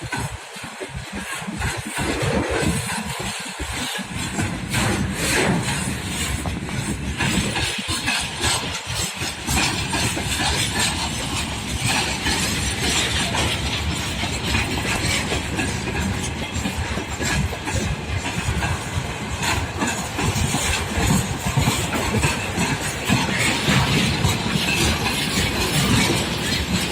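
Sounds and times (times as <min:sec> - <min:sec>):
freight train rumbling past: 0:00.0 - 0:26.9
wheels clattering over rails: 0:00.0 - 0:26.9.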